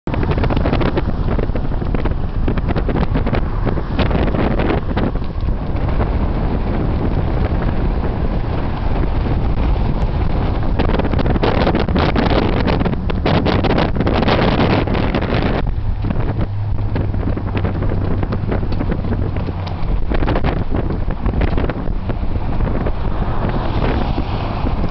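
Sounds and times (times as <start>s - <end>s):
wind buffeting microphone: 0.1s - 24.9s.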